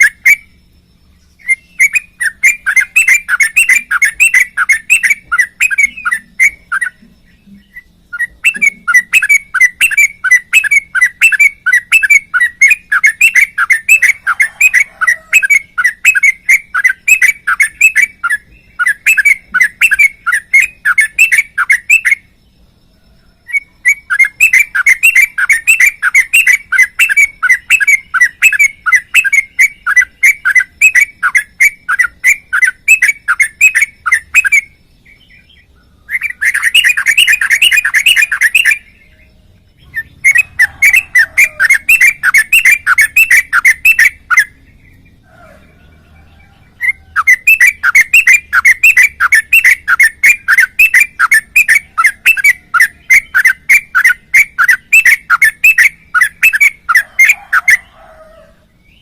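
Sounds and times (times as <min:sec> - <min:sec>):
bulbul singing chirpy notes: 0:00.0 - 0:59.0.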